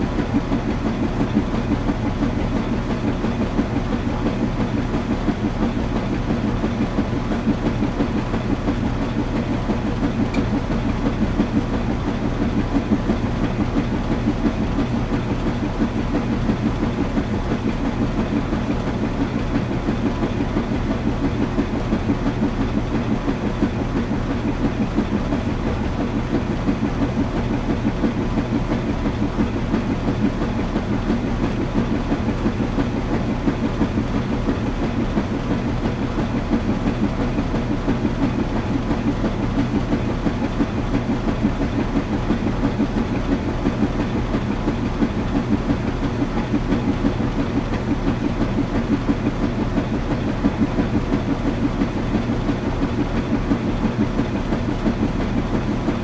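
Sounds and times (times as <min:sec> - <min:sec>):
washing machine churning: 0:00.0 - 0:56.0.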